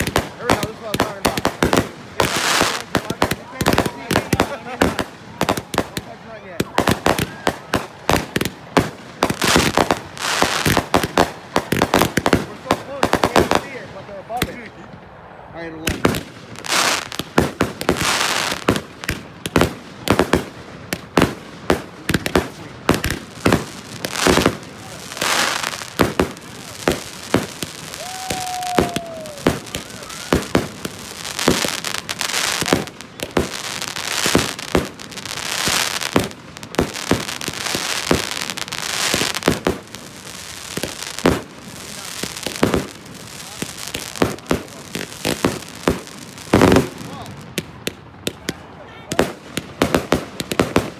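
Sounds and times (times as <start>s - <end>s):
fireworks hissing crackle: 0.0s - 14.9s, 15.8s - 48.5s
fireworks bangs: 0.0s - 50.9s.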